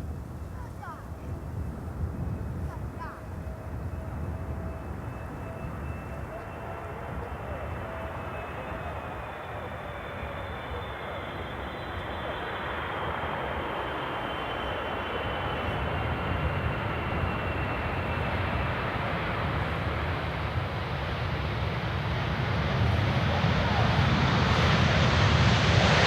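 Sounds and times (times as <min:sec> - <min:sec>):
jet airliner engines: 0:00.0 - 0:26.0.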